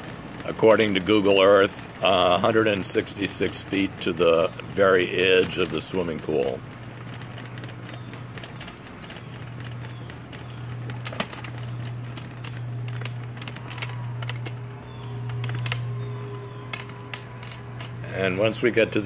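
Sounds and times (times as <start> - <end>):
footsteps on brick pavers: 0.0 - 19.0
steady low hum: 0.0 - 19.0.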